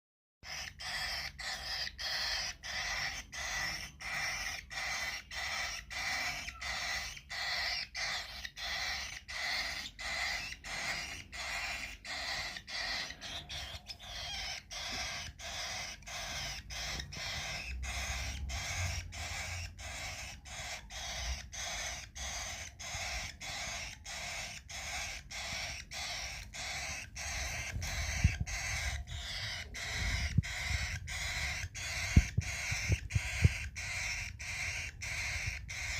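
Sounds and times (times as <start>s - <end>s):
baby cockatiel raspy begging calls: 0.4s - 35.9s.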